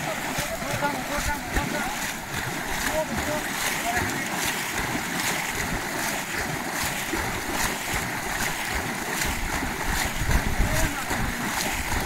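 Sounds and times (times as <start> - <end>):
people wading through water: 0.0 - 12.0.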